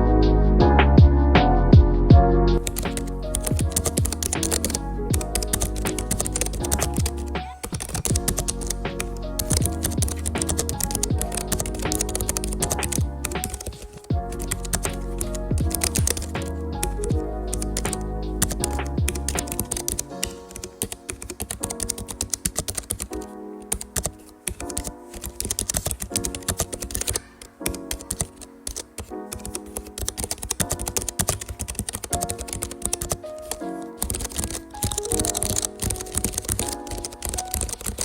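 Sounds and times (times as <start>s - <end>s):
background music: 0.0s - 38.0s
fast typing on mechanical keyboard: 2.6s - 38.0s.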